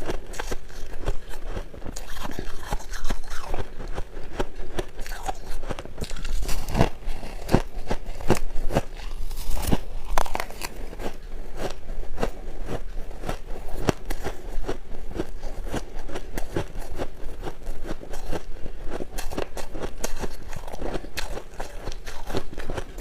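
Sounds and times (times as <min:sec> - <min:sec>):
ice crunching while chewed: 0:00.0 - 0:23.0.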